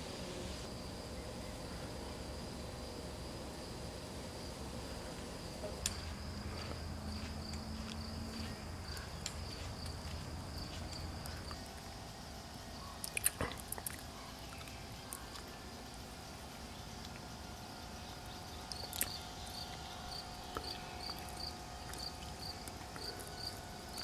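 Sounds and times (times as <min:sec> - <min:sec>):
insect buzzing: 0:00.0 - 0:24.0.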